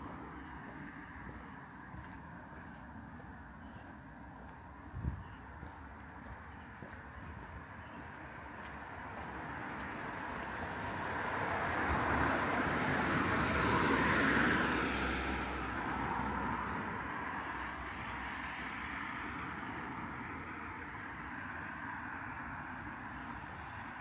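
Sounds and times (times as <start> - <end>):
vehicle passing by: 0.0 - 24.0.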